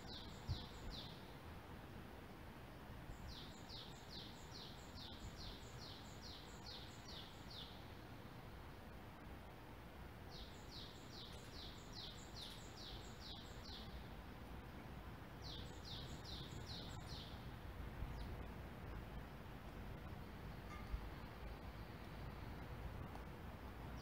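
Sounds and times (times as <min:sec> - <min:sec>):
songbird singing repeated notes: 0:00.0 - 0:01.4, 0:02.7 - 0:08.3, 0:10.3 - 0:24.0
low outdoor background noise: 0:00.0 - 0:24.0.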